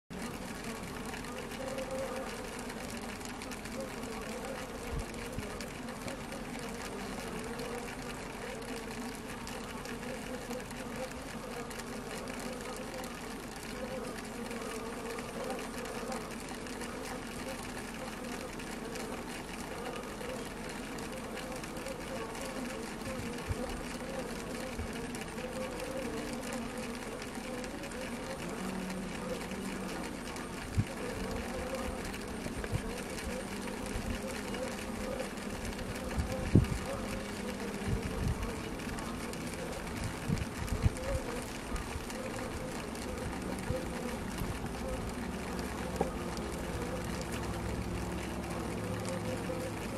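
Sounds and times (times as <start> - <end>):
bees humming in hive: 0.1 - 49.9
light tapping of bees: 0.3 - 49.9.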